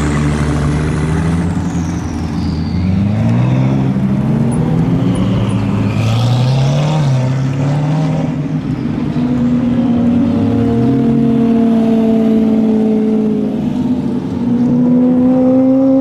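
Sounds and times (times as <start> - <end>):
sports car engines driving by: 0.0 - 16.0.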